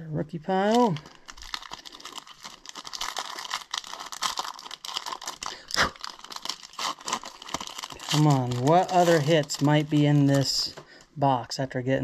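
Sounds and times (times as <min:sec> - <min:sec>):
card pack wrapper crinkling: 0:00.5 - 0:11.0.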